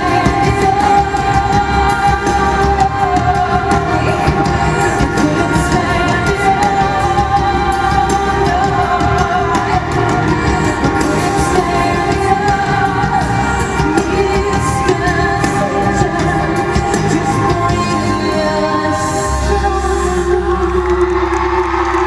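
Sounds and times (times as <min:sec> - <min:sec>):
woman singing: 0:00.0 - 0:22.0.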